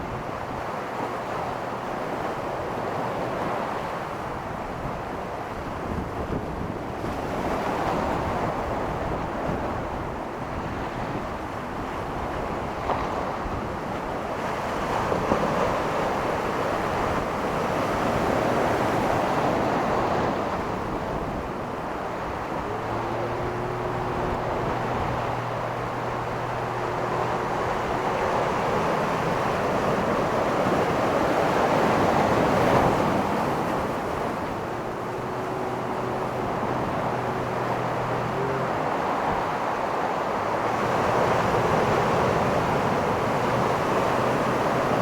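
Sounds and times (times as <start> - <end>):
low engine hum: 0.0 - 45.0
ocean surf breaking on beach: 0.0 - 45.0
wind on microphone: 0.0 - 45.0.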